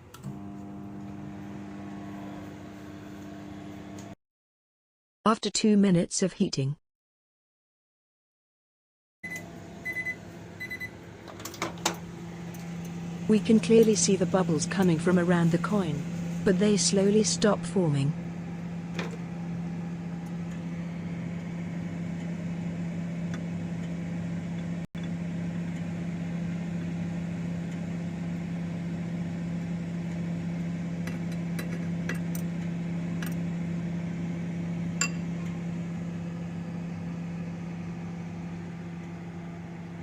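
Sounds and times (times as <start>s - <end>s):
microwave oven humming: 0.0s - 4.2s, 9.2s - 40.0s.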